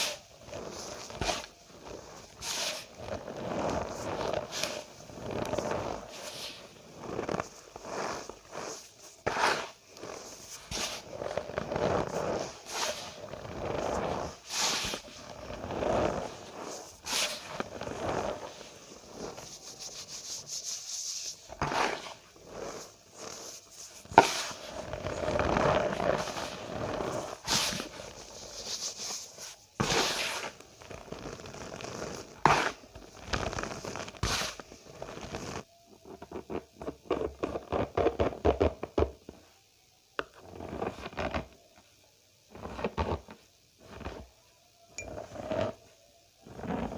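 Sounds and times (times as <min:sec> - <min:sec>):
cornstarch crunching and squeaking: 0:00.0 - 0:38.4.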